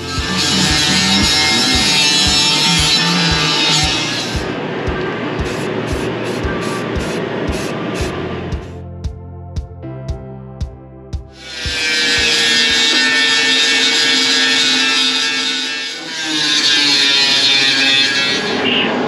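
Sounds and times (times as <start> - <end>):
angle grinder grinding metal: 0.0 - 8.1, 11.4 - 18.8.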